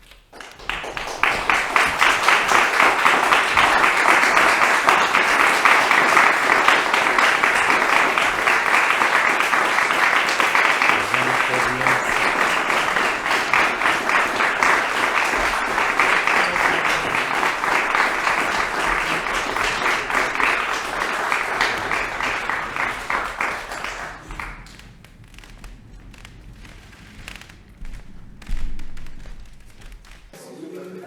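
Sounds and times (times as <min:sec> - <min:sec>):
audience applauding: 0:00.0 - 0:30.4.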